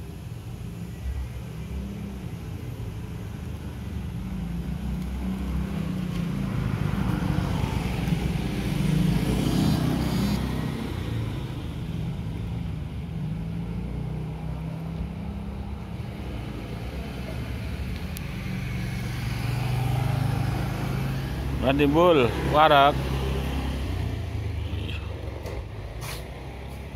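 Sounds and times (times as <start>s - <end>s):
road traffic engine rumble: 0.0s - 26.9s.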